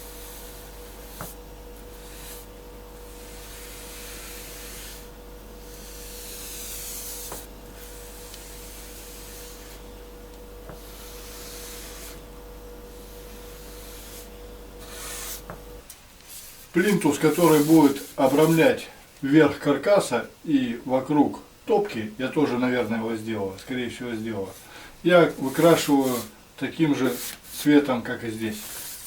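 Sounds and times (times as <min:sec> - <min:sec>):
paint brush strokes: 0:00.0 - 0:10.0, 0:10.6 - 0:18.8, 0:23.7 - 0:29.0
faint steady hum: 0:00.0 - 0:29.0.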